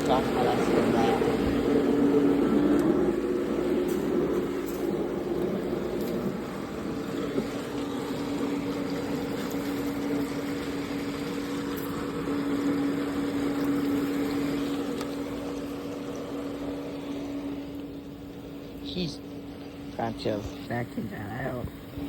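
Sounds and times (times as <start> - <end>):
pool pump motor humming: 0.0 - 22.0.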